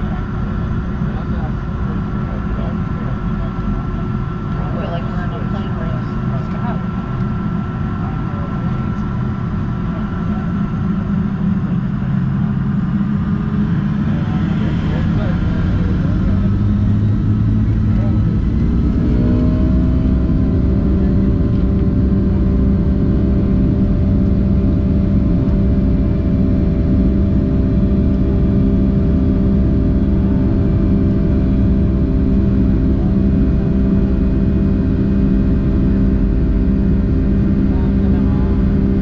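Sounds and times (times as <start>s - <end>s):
jet engine cabin rumble: 0.0s - 39.0s
steady hums: 0.0s - 39.0s.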